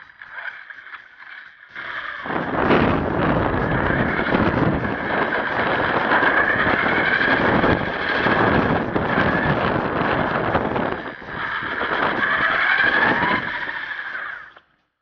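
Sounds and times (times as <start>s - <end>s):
rc truck motor whine: 0.0s - 14.9s.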